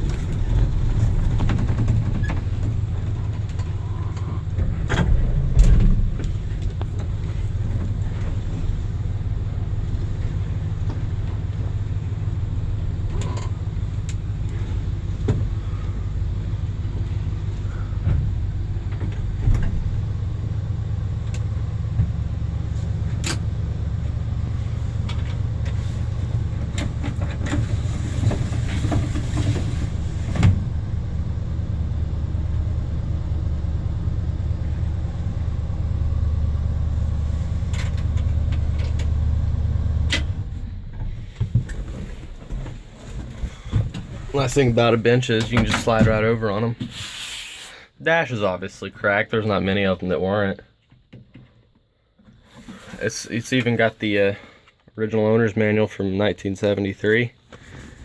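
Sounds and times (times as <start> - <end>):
truck engine running: 0.0 - 46.8.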